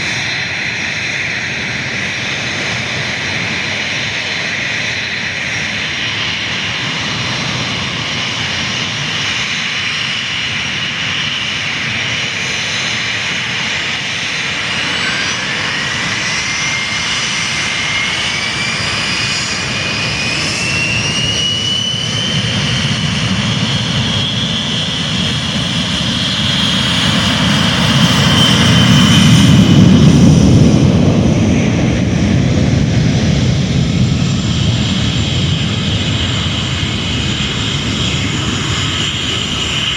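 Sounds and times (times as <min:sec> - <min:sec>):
deep jet engine rumble: 0:00.0 - 0:39.9
jet engine whine: 0:00.0 - 0:39.9.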